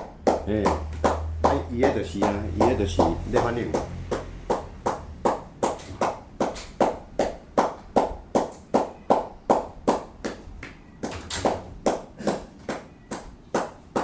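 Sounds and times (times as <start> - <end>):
rhythmic sharp taps: 0.0 - 14.0.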